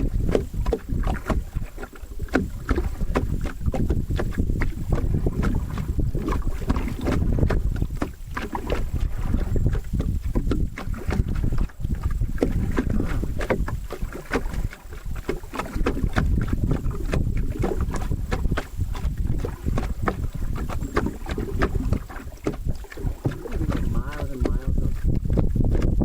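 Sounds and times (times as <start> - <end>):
paddle strokes and splashing: 0.0 - 26.0
water lapping against hull: 0.0 - 26.0
steady low rumble: 2.2 - 26.0.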